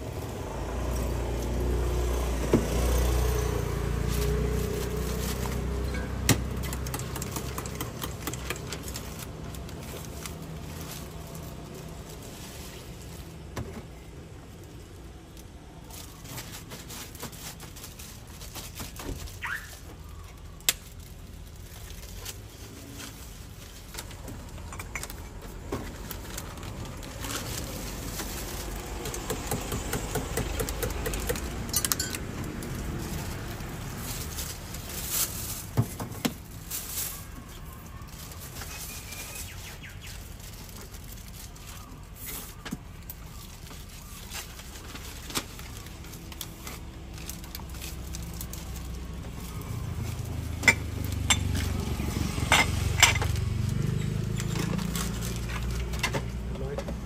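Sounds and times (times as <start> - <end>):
plastic bags rustling: 0.0 - 56.8
traffic hum: 0.0 - 57.0.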